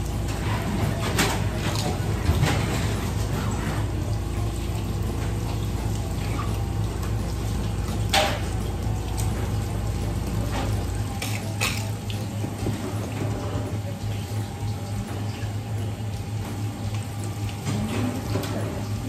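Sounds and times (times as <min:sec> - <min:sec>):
tap water running into sink: 0:00.0 - 0:19.0.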